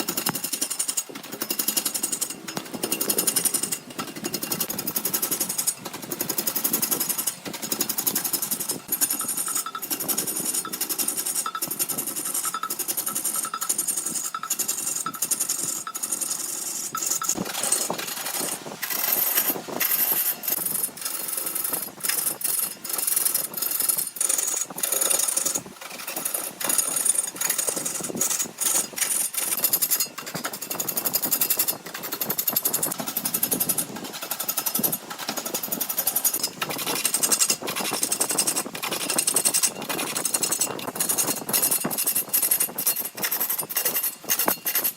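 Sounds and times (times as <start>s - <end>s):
wood lathe tool chattering: 0.0s - 44.9s.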